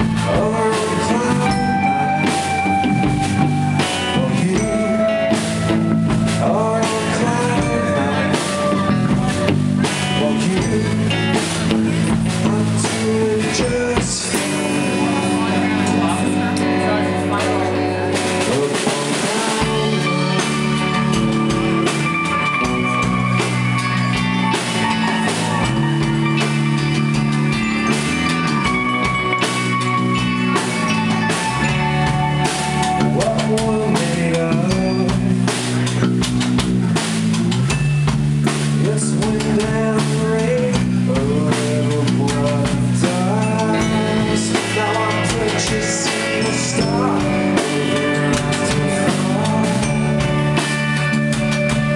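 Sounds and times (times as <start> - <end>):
drum kit beat: 0.0 - 51.9
electric bass: 0.0 - 51.9
electric guitars: 0.0 - 51.9.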